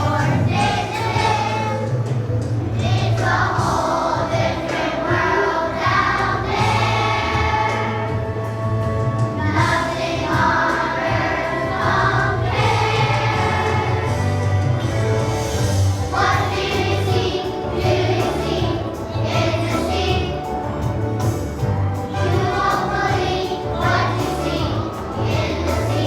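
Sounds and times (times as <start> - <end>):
children's choir singing: 0.0 - 26.0
instrumental accompaniment: 0.0 - 26.0.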